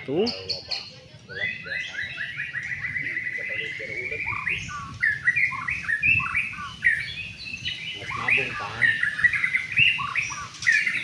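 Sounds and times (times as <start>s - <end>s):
songbird whistling: 0.3s - 11.0s.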